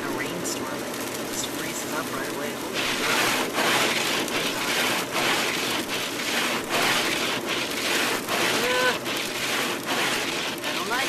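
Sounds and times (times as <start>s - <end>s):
ice pellets pelting car roof: 0.2s - 11.0s.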